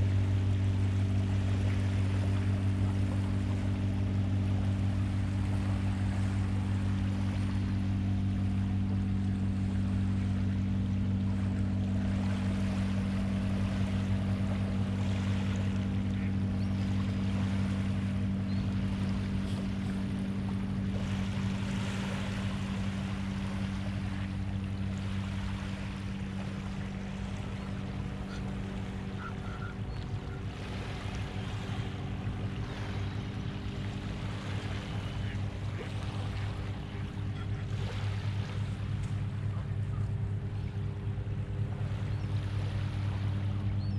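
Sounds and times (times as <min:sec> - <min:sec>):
small waves lapping on shore: 0:00.0 - 0:43.9
steady low hum: 0:00.0 - 0:43.9.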